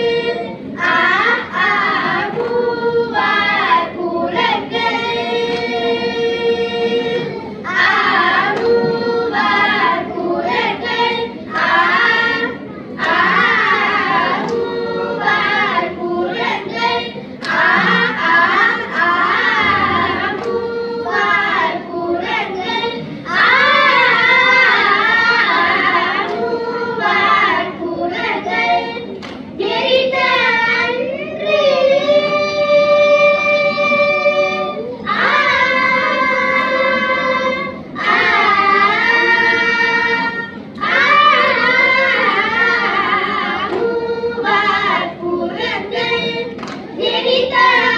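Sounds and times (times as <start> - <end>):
children singing a hymn: 0.0 - 47.9.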